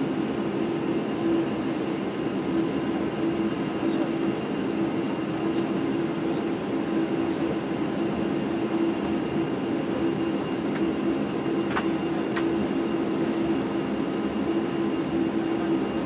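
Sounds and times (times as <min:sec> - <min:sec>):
jet engine hum: 0:00.0 - 0:16.0.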